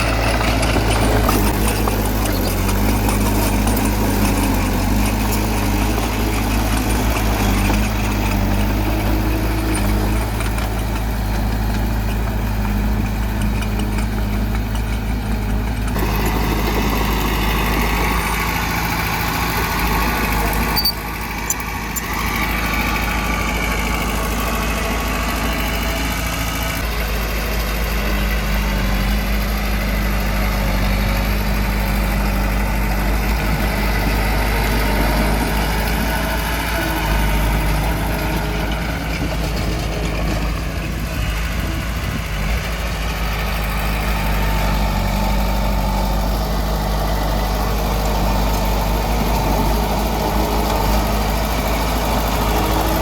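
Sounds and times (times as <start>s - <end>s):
earthmoving machine engine running: 0.0s - 53.0s.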